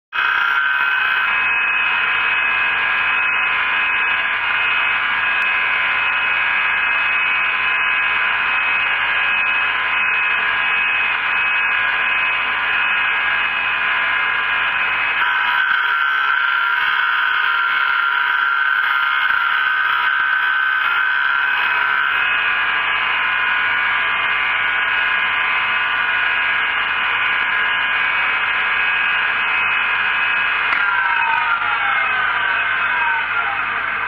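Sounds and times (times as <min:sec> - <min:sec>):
grinder grinding drill bit: 0:00.2 - 0:34.0.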